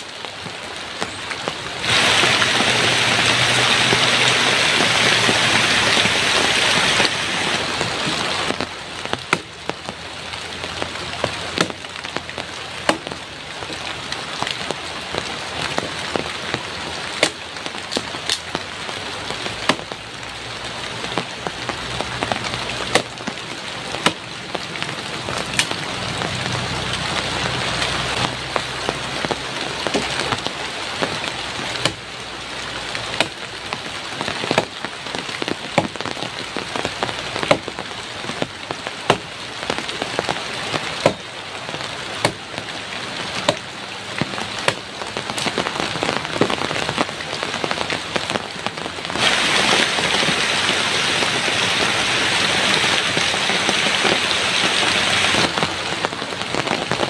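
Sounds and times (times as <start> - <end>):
rain drops hitting hard surface: 0.0 - 57.0.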